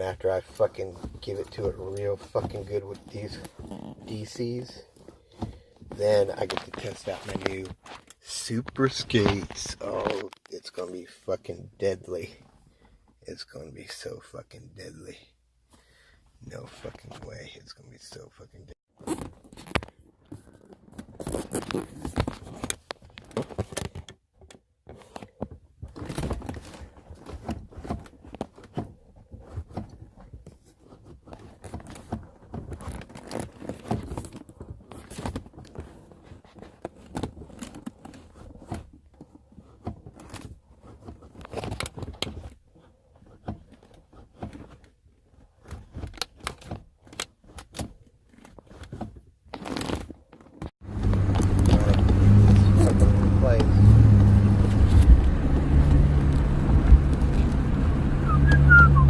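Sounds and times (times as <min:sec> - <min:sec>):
rustling and crinkling handling noise: 0:00.0 - 0:58.2.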